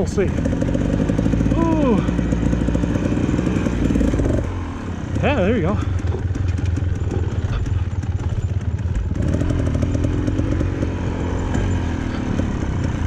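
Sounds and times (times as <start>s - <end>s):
clattering over rough ground: 0.0s - 13.0s
dirt bike engine running: 0.0s - 13.0s.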